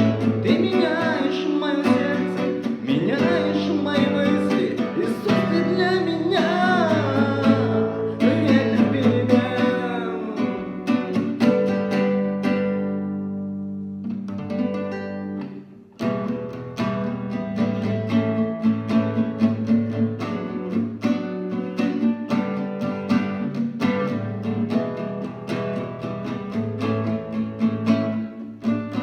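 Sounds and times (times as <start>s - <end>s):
acoustic guitar picking: 0.0s - 29.0s.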